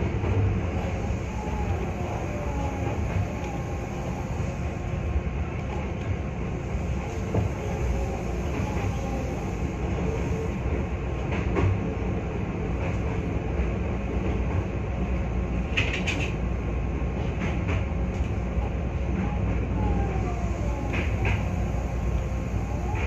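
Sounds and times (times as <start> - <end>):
train low rumble and hum: 0.0 - 23.0.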